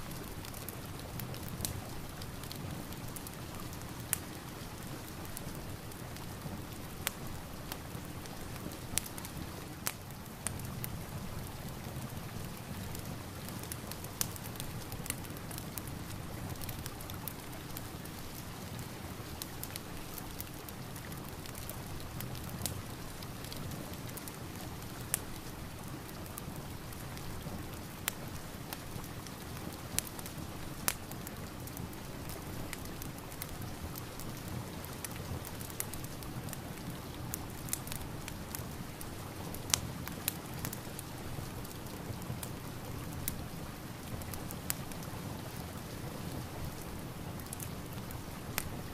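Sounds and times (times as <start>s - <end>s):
steady rain: 0.0s - 48.9s
wood fire crackling and popping: 0.0s - 48.9s.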